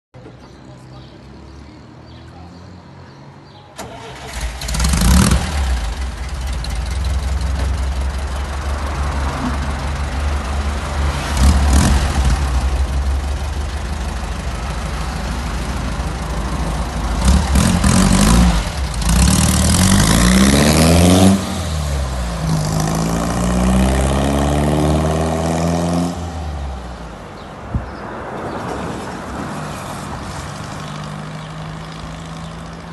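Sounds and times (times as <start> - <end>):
vehicle engine idling and revving: 3.8 - 32.9.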